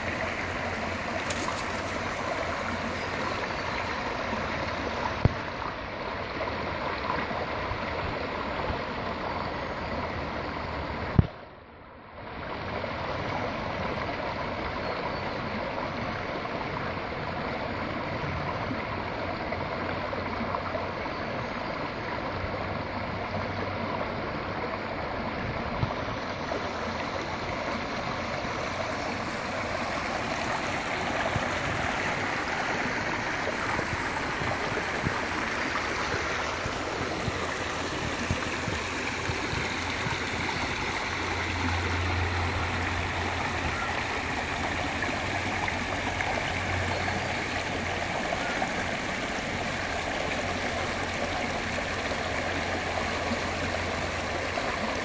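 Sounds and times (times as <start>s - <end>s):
water running over rocks: 0.0s - 11.4s, 12.4s - 55.0s.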